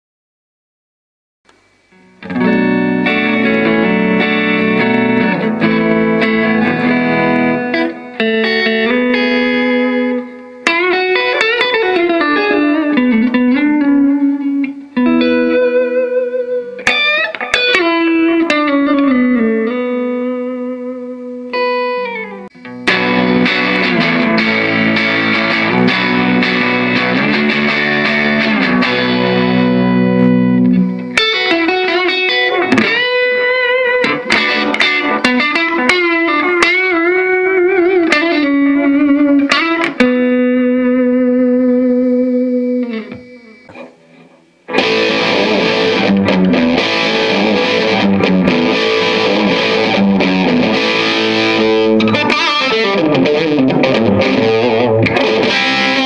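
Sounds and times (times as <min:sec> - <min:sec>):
distorted electric guitar: 0:01.5 - 0:56.0.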